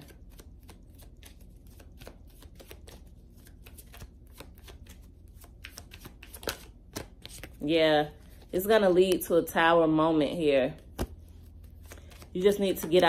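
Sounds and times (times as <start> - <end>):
cards being shuffled: 0.0 - 9.2, 10.7 - 13.0.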